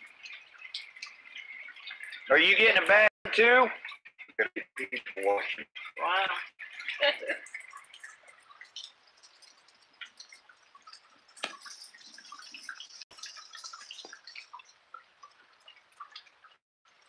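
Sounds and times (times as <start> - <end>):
light rain pattering: 0.0 - 17.0.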